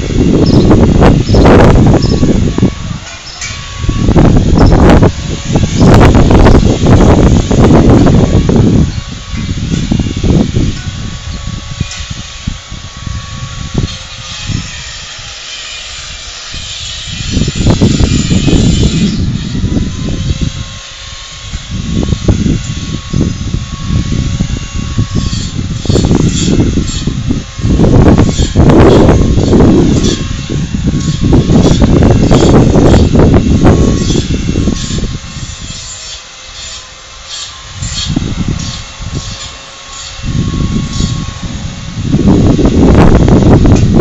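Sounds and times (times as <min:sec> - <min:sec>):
faint rasping strokes: 0:00.0 - 0:21.6, 0:22.2 - 0:42.7
wind buffeting microphone: 0:00.0 - 0:44.0.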